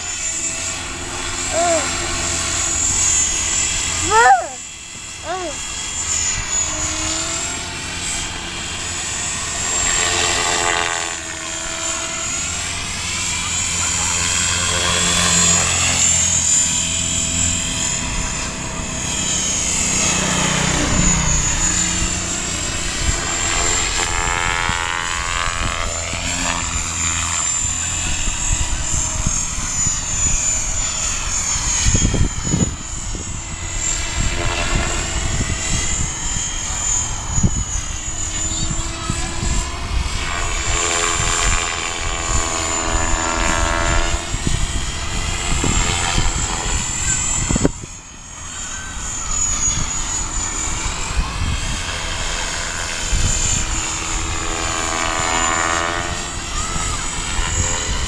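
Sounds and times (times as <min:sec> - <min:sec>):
rc helicopter rotor and motor whine: 0:00.0 - 0:58.0
wind rumbling on microphone: 0:00.0 - 0:58.0.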